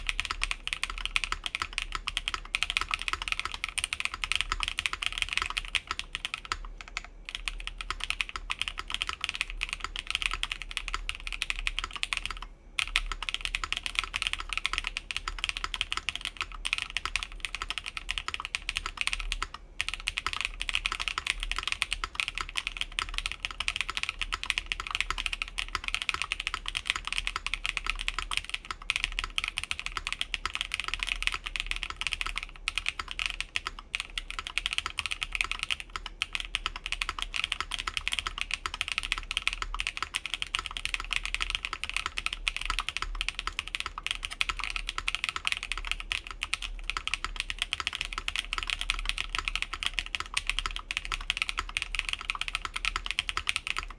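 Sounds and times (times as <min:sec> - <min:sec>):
fast typing on mechanical keyboard: 0:00.0 - 0:53.9.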